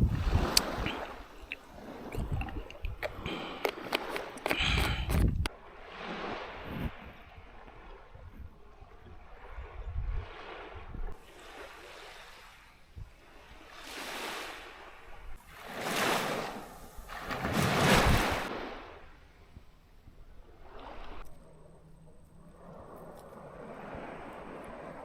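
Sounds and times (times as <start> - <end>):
small waves breaking: 0.0 - 25.0.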